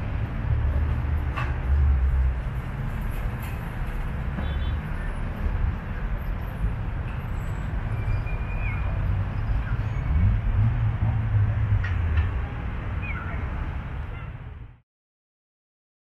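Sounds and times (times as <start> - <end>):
low rumble of road traffic: 0.0 - 14.8.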